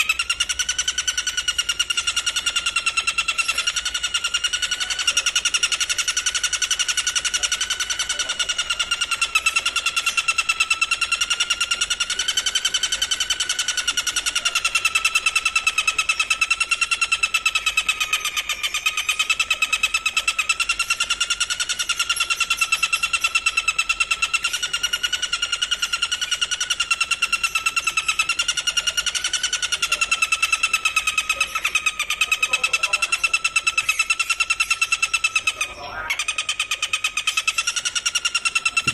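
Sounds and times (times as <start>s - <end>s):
insect trilling: 0.0s - 38.9s.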